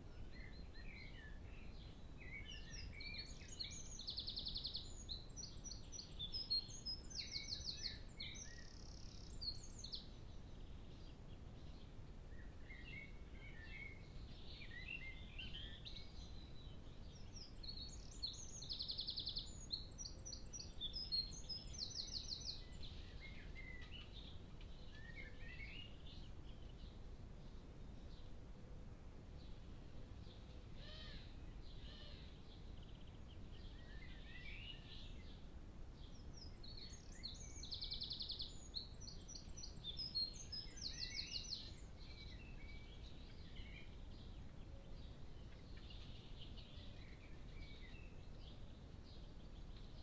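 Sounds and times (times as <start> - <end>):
songbird singing trills: 0.0 - 28.4, 29.4 - 50.0
faint low background noise: 0.0 - 50.0.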